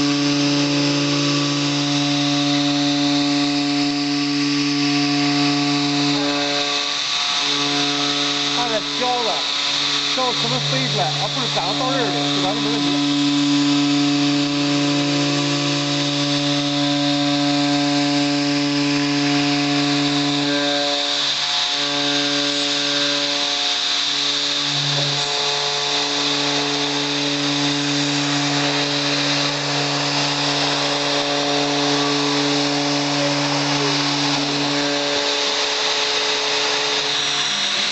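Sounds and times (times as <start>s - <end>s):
machine spindle whine: 0.0s - 37.9s.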